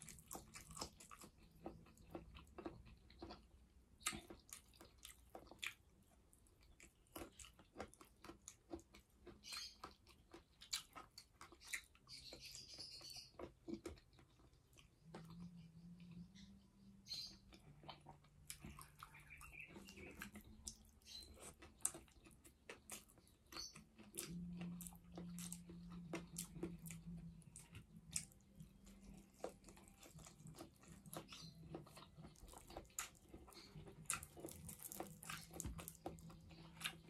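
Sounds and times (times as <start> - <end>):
person chewing and biting: 0.0 - 5.9, 6.6 - 12.4, 17.5 - 37.0
faint low hum: 0.0 - 37.0.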